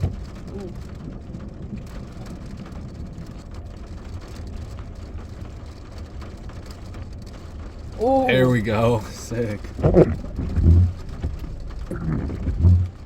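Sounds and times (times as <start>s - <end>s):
light rain ticking: 0.0s - 13.0s.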